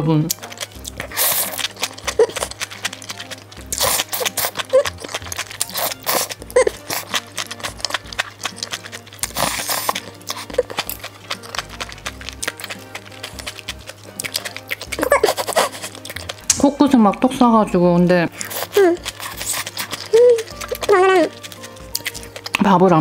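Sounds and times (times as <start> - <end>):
soft background music: 0.0 - 23.0
crunchy chewing: 0.3 - 17.3, 18.3 - 22.7.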